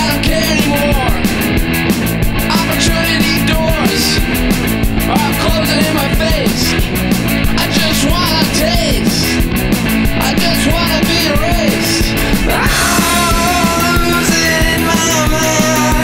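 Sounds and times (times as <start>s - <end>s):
punk rock band music: 0.0s - 16.0s
steady drum beat: 0.0s - 16.0s.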